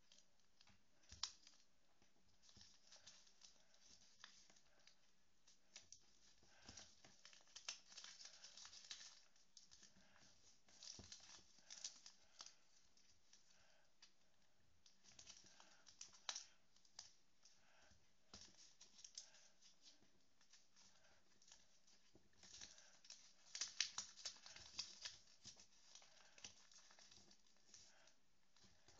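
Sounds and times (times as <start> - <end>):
paper rustling and crinkling: 0.0 - 14.2, 14.8 - 28.9.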